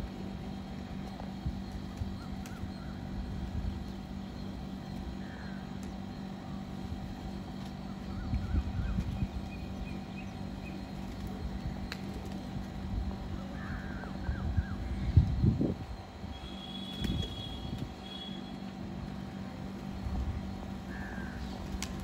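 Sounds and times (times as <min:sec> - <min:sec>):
low city hum: 0:00.0 - 0:22.0.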